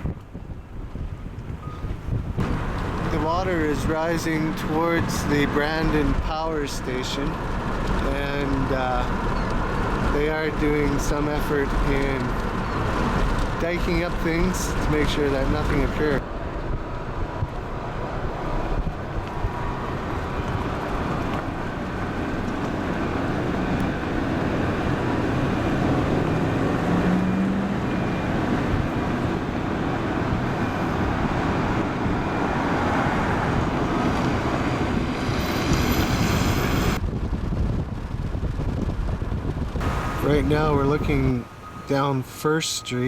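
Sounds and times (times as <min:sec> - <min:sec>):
car road and engine noise: 0:00.0 - 0:43.0
wind: 0:00.0 - 0:43.0.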